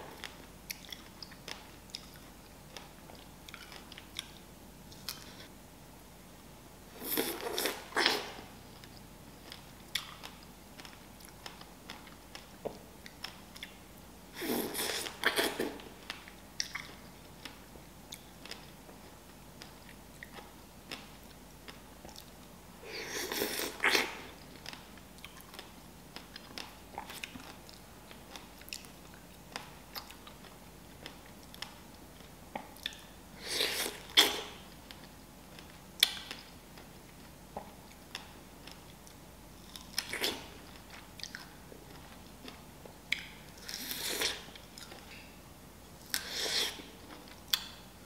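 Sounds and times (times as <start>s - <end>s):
soft chewing: 0.0s - 5.5s, 7.0s - 13.8s, 14.4s - 47.9s.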